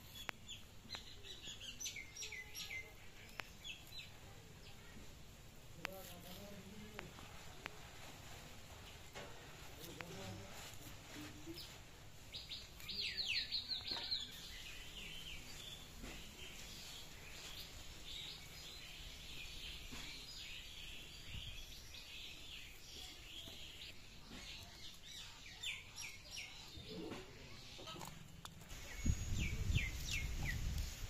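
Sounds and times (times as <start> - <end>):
birds chirping: 0.0 - 5.0, 9.7 - 31.0.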